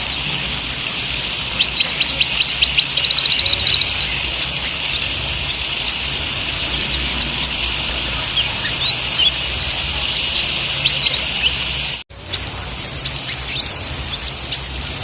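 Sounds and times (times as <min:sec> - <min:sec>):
bird chirping: 0:00.0 - 0:14.8
bird rattling trill: 0:00.0 - 0:14.8
steady hiss: 0:00.0 - 0:15.0.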